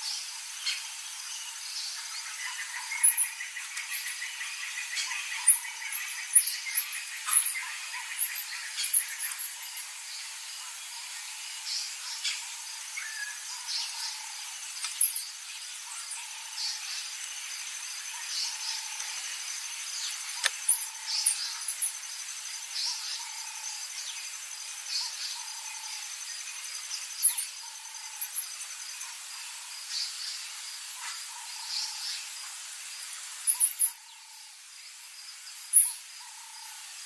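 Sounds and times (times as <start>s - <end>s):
insect trill: 0.0s - 37.0s.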